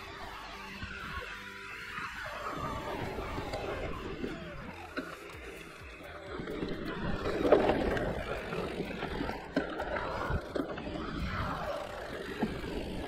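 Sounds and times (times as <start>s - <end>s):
bike knocking and rattling: 0.0s - 13.0s
tyres on loose dirt: 0.0s - 13.0s.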